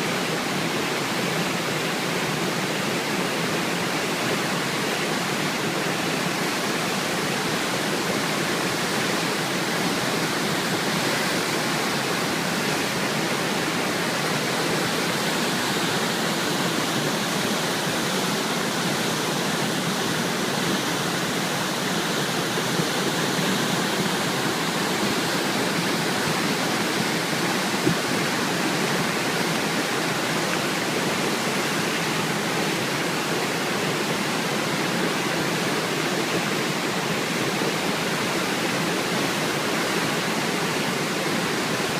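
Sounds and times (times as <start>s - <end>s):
flooded river rushing: 0.0s - 41.9s.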